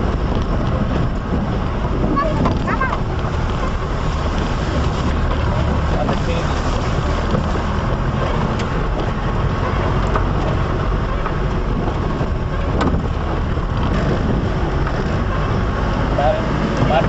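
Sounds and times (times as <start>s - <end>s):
car engine and road noise: 0.0s - 17.0s
wind buffeting microphone: 0.0s - 17.0s.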